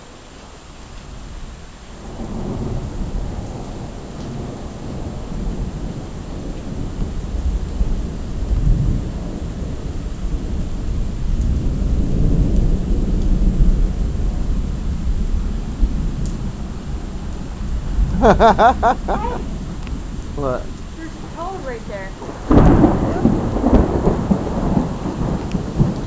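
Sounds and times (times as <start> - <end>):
rolling thunder: 1.0 - 26.0.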